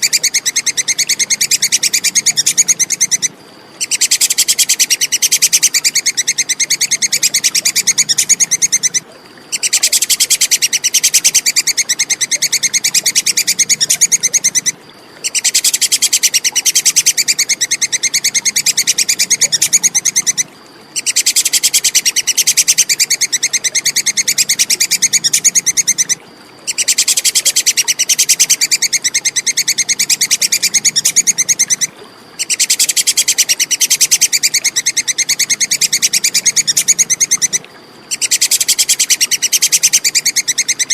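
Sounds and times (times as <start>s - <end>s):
squirrel chattering call: 0.0s - 40.9s.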